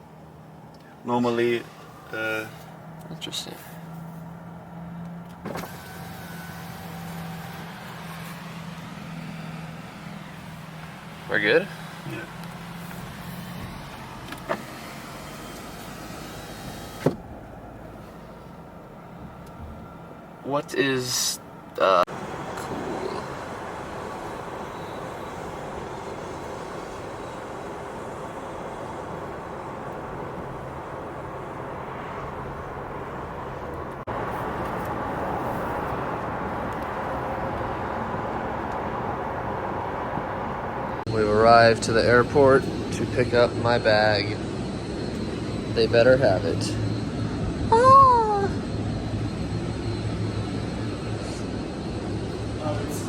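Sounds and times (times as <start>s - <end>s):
car cabin road noise: 0.0s - 53.0s.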